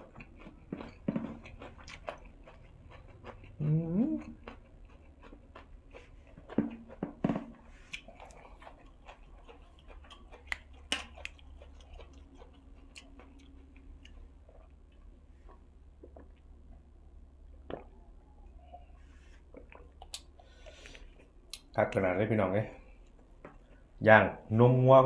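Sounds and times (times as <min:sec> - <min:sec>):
person chewing crunchy vegetables: 0:00.0 - 0:21.8.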